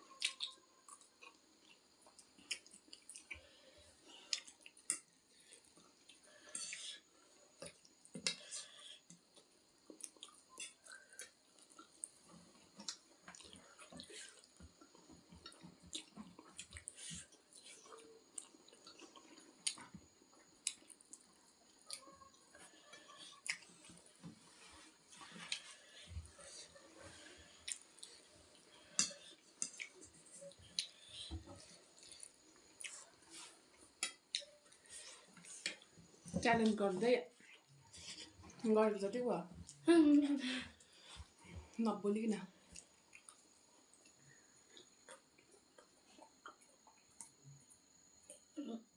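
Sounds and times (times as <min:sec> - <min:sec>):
soft eating sounds: 0:00.0 - 0:48.9.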